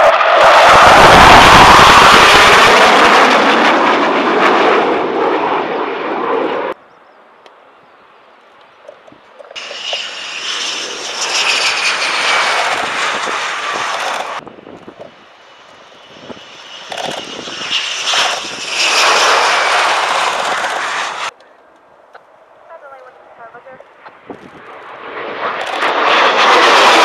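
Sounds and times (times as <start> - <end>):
jet roaring with high whine: 0.0 - 27.0.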